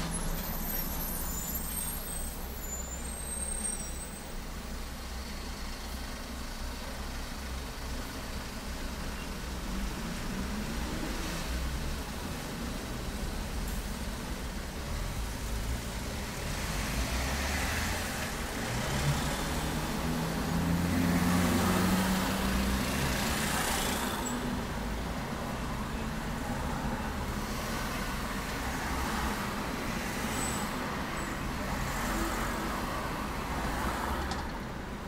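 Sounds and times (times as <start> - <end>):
street traffic: 0.0 - 35.0.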